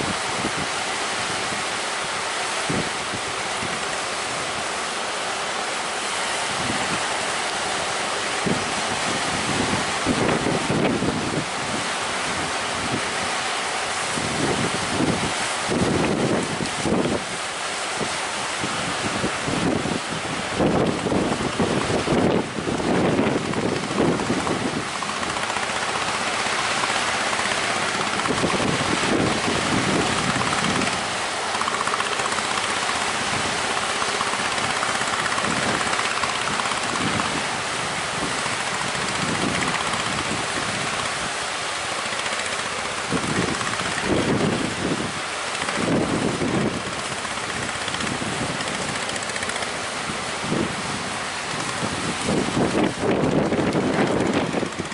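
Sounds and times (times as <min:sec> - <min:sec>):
sea waves rushing: 0:00.0 - 0:54.9
wind buffeting microphone: 0:00.0 - 0:54.9.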